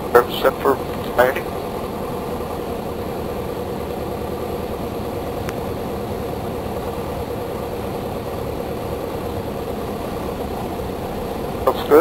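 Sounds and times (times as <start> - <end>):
aircraft engine and propeller: 0.0 - 12.0.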